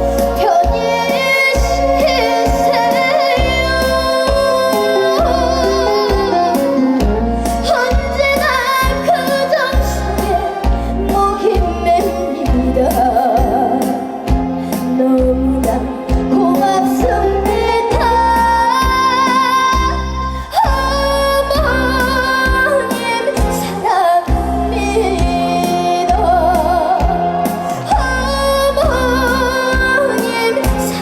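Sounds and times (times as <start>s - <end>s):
backing track beat: 0.0s - 31.0s
woman singing with vibrato: 0.0s - 31.0s.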